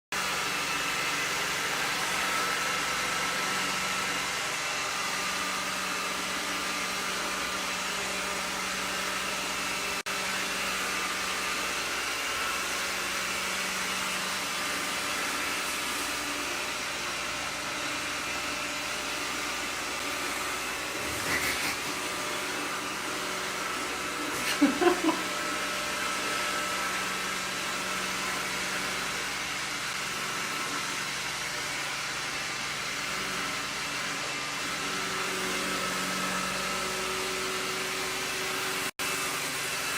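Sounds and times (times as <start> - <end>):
robot vacuum whirring: 0.2 - 39.9.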